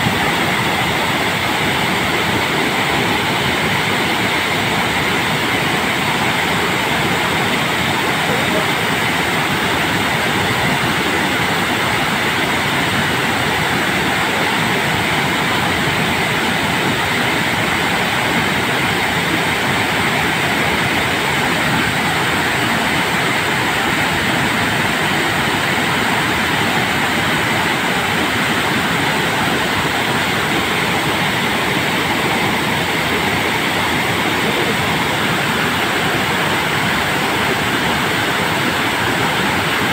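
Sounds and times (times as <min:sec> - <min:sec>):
water rushing down spillway: 0:00.0 - 0:39.9.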